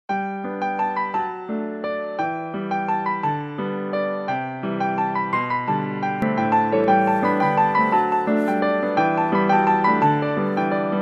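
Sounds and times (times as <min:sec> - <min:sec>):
gentle piano melody: 0:00.1 - 0:11.0.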